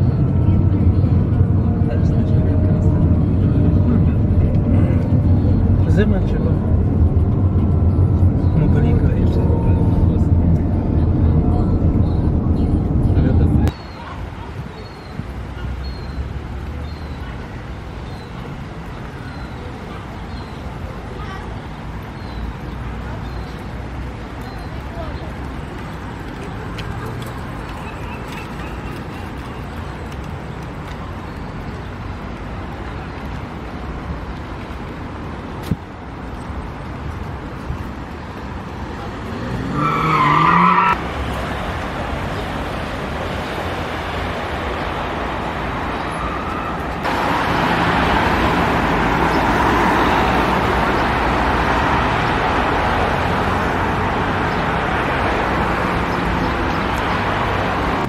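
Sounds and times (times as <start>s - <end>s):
cars passing: 0.0s - 58.0s
traffic rush: 0.0s - 58.0s.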